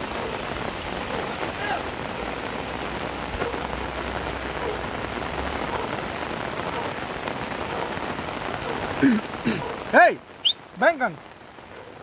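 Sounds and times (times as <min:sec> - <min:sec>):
heavy rain on road: 0:00.0 - 0:12.0.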